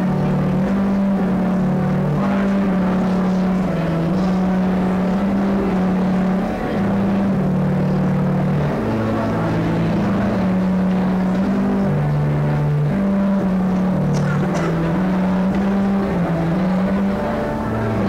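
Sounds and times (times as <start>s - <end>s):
church organ playing slow melody: 0.0s - 18.0s.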